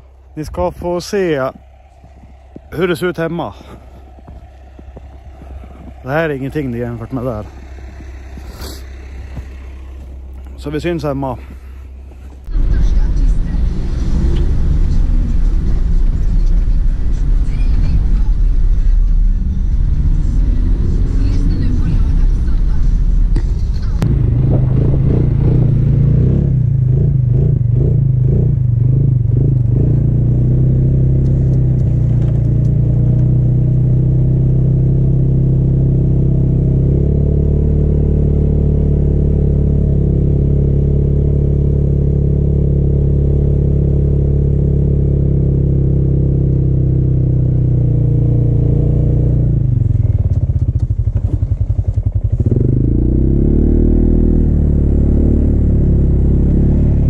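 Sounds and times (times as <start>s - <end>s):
snowmobile engine under load: 0.0s - 57.0s.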